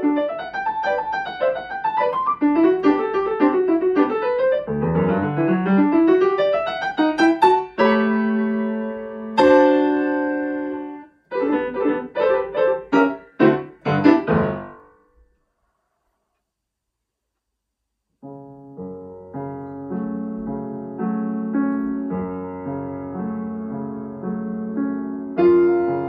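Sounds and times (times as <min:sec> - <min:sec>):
grand piano playing: 0:00.0 - 0:15.0, 0:18.2 - 0:26.0.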